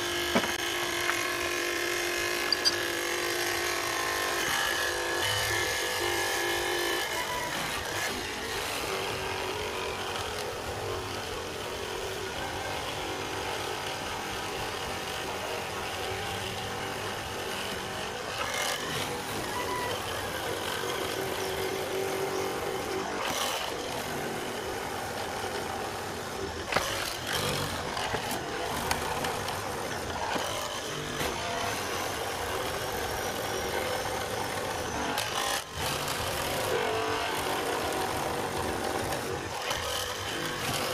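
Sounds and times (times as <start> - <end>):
mortising machine cutting wood: 0.0 - 40.9.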